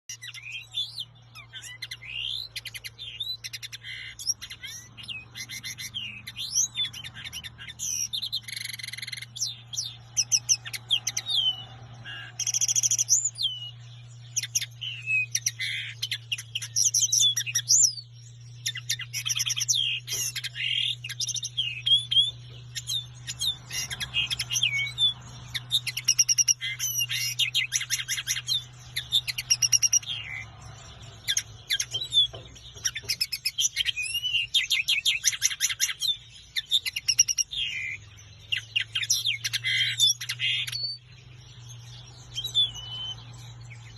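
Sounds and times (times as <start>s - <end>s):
linnet twittering song: 0.0s - 43.9s.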